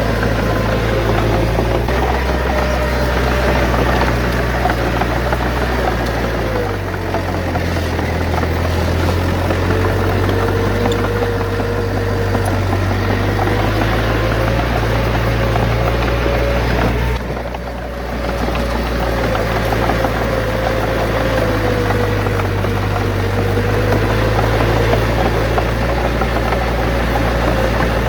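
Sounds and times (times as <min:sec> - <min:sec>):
heavy diesel engine running: 0:00.0 - 0:28.0
small clicks and rattles: 0:00.0 - 0:28.0.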